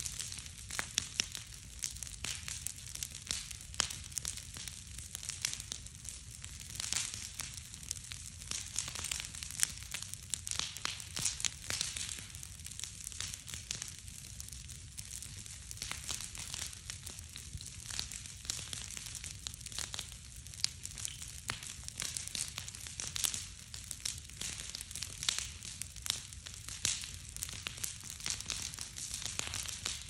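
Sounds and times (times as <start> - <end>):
bonfire crackling and popping: 0.0 - 30.0
low rumble of fire: 0.0 - 30.0.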